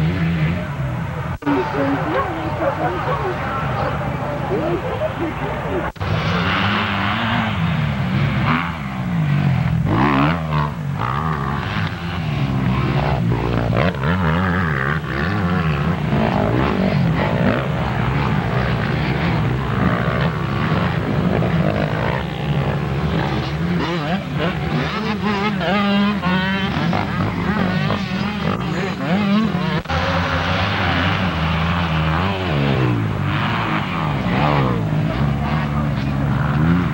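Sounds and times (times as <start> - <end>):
motocross bike engines revving: 0.0 - 36.9.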